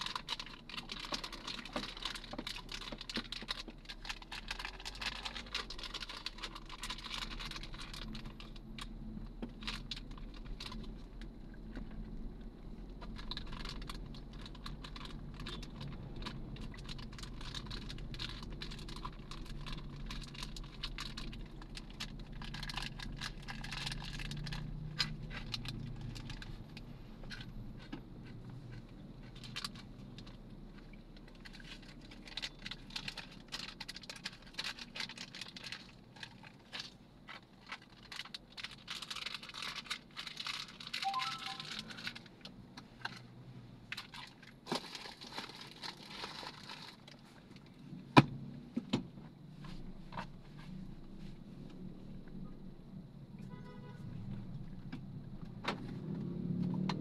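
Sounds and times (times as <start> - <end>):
vehicle cabin rumble: 0.0 - 35.8, 47.1 - 57.0.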